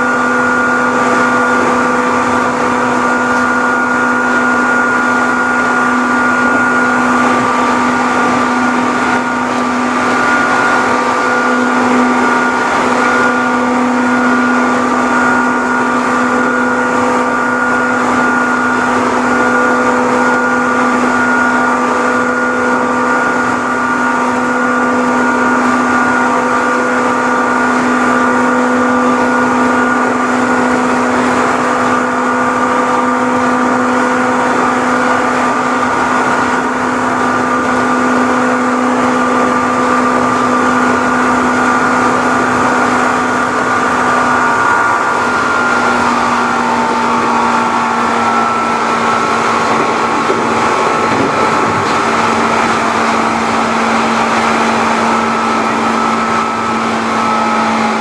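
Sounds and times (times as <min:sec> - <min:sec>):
train traction motor whine: 0:00.0 - 0:58.0
wheels rumbling on track: 0:00.0 - 0:58.0.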